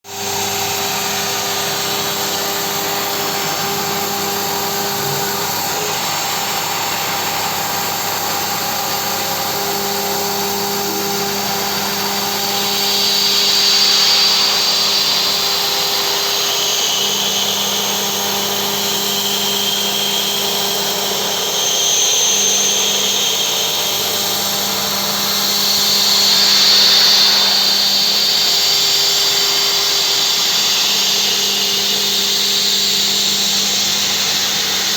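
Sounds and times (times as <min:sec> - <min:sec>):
milling spindle whine: 0:00.1 - 0:34.9.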